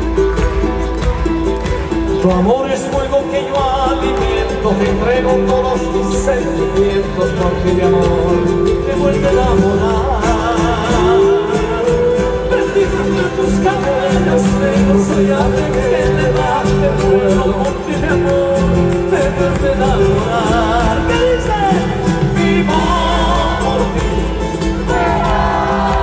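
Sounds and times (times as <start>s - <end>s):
folk band music over loudspeakers: 0.0s - 26.0s.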